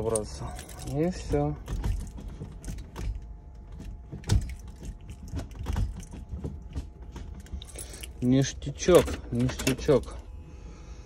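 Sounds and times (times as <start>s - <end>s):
gear lever clicks and knocks: 0.0s - 10.2s
faint steady hum: 0.0s - 11.0s.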